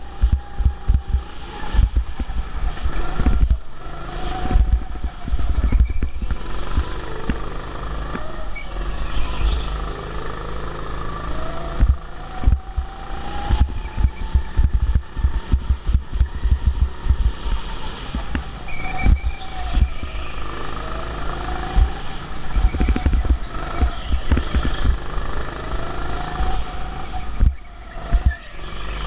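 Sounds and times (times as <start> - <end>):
go-kart motor: 0.0 - 29.0.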